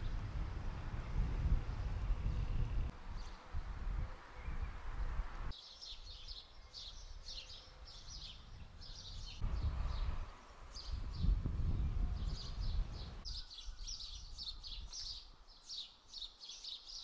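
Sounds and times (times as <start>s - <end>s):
small birds chirping: 1.1s - 17.0s.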